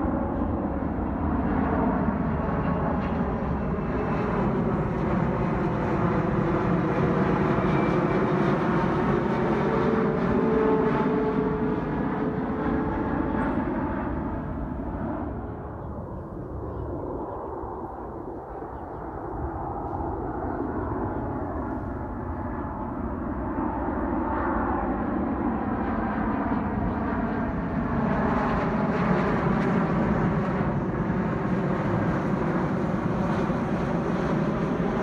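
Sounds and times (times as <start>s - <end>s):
jet plane passing overhead: 0.0s - 35.0s.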